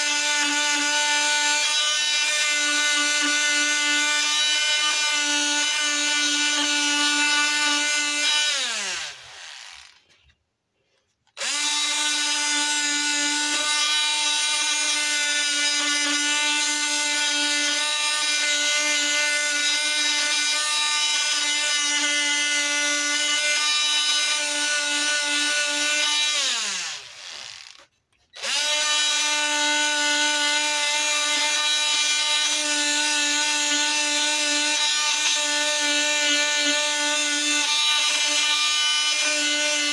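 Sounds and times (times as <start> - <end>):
power tool motor whine: 0.0 - 10.1, 11.4 - 39.9.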